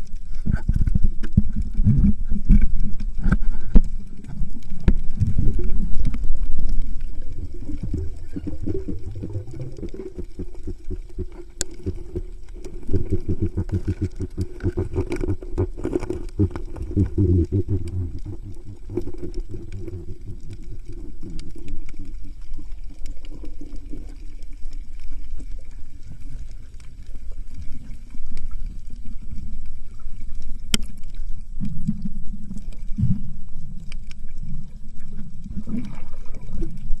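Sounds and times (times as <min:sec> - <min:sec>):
faint underwater clicks: 0:00.0 - 0:37.0
underwater rumble of moving water: 0:00.0 - 0:37.0.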